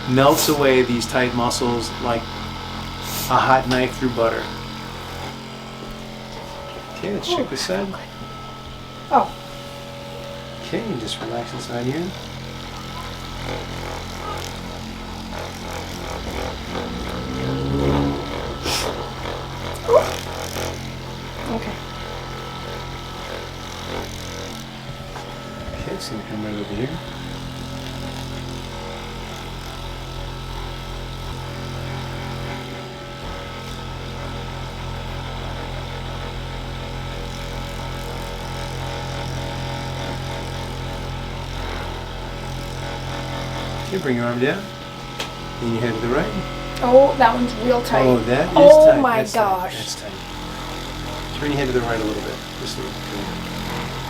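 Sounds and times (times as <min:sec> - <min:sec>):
massager motor buzzing: 0:00.0 - 0:54.0.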